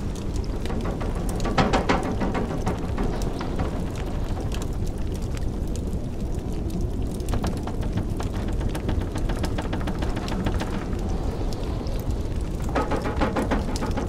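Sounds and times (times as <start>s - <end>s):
blizzard wind rumble: 0.0s - 14.0s
wood fire crackling: 0.0s - 14.0s.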